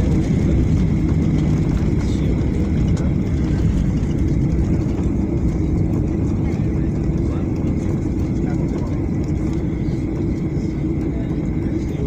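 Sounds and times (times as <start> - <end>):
jet engines and landing gear rumble: 0.0 - 12.0
thin steady whine: 0.0 - 12.0.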